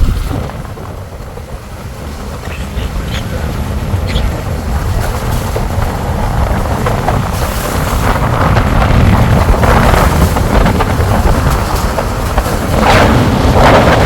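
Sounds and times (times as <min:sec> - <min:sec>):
road rumble: 0:00.0 - 0:14.0
wind buffeting microphone: 0:00.0 - 0:14.0.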